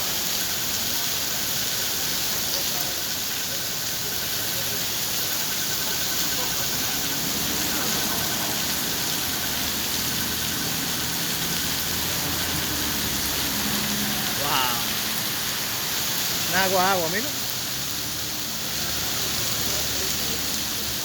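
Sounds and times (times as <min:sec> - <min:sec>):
heavy rain pouring: 0:00.0 - 0:21.0
traffic engine hum: 0:03.7 - 0:21.0.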